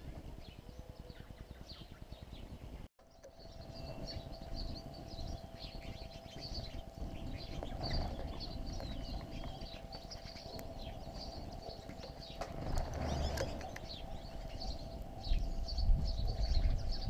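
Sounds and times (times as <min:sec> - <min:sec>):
faint steady hum: 0:00.0 - 0:17.0
small birds chirping: 0:00.0 - 0:17.0
low rumbling noise: 0:02.3 - 0:17.0.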